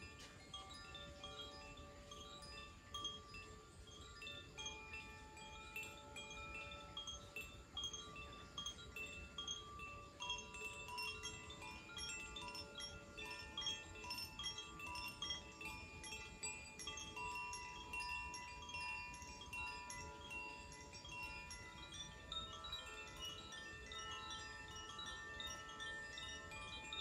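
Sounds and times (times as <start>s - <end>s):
bamboo chimes tinkling: 0.0s - 27.0s.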